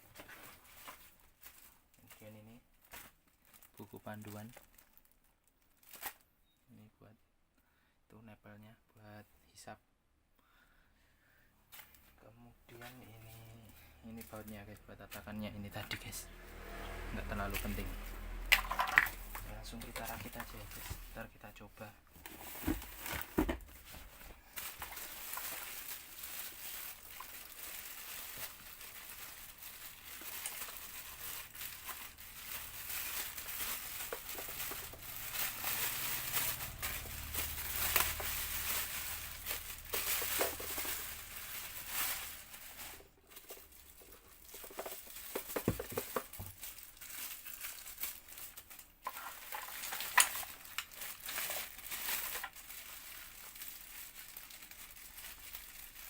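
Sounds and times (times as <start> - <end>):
plastic packaging crinkling: 0.0 - 6.3, 12.7 - 16.5, 17.1 - 56.0.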